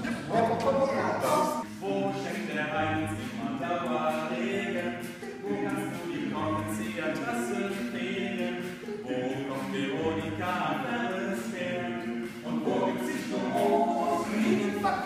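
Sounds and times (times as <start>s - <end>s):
male group singing in harmony: 0.0s - 15.0s.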